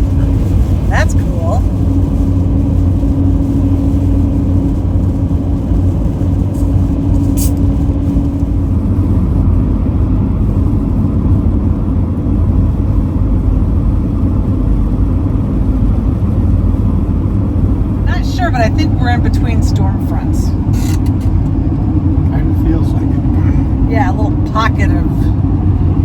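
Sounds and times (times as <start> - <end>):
steady hum: 0.0 - 26.0
tyres and drivetrain rumble: 0.0 - 26.0.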